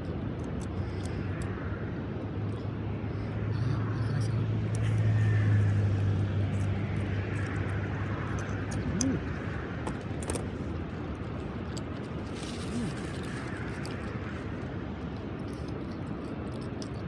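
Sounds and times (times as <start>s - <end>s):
distant engine drone: 0.0s - 16.8s.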